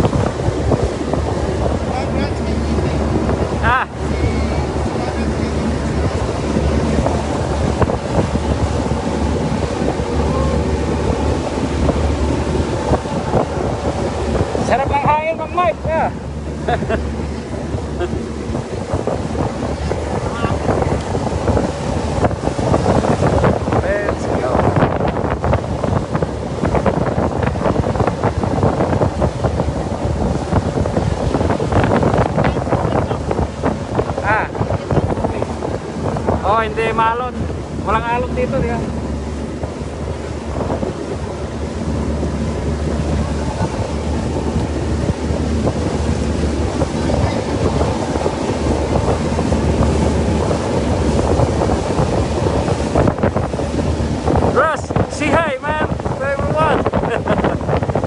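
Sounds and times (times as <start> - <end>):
boat rumbling under way: 0.0 - 58.0
wind buffeting microphone: 0.0 - 58.0.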